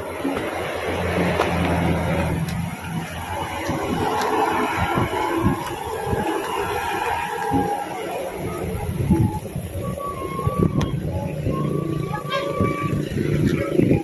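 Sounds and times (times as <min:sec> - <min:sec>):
traffic noise: 0:00.0 - 0:14.0
vehicle engine humming: 0:00.0 - 0:14.0.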